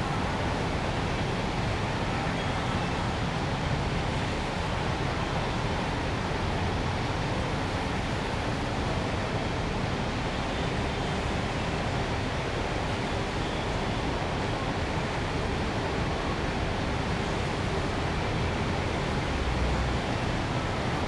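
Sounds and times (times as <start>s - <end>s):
city traffic and street noise: 0.0s - 21.0s.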